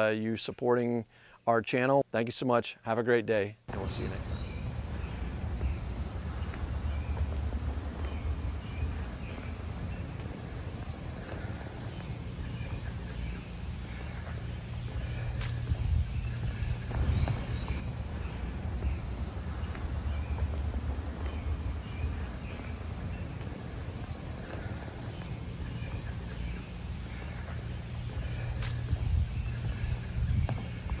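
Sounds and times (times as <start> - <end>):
insects droning: 3.7 - 31.0
low uneven rumble: 3.7 - 31.0.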